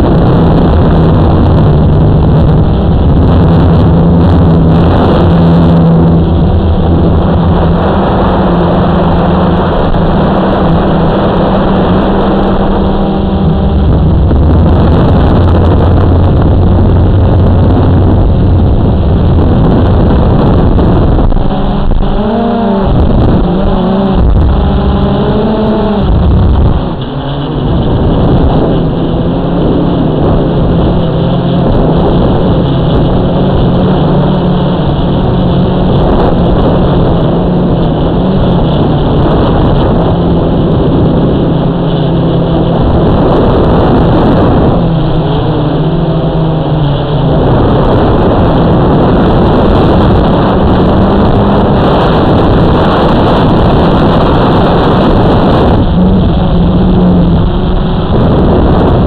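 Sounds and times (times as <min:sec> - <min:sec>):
drone propellers humming: 0:00.0 - 0:59.0
wind noise: 0:00.0 - 0:59.0.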